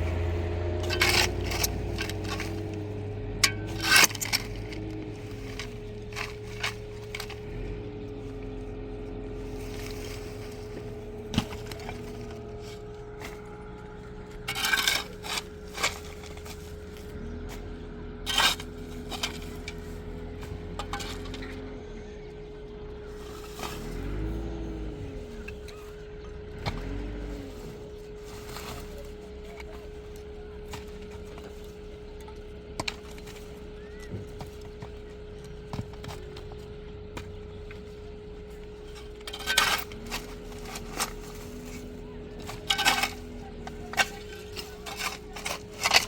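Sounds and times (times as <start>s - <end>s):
hard objects clinking and knocking: 0.0s - 17.6s, 18.2s - 21.7s, 28.6s - 46.0s
engine running: 0.0s - 46.0s.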